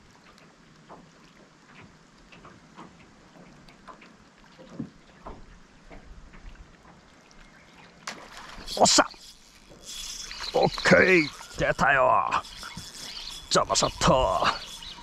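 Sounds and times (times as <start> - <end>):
small water splashes: 0.0 - 15.0.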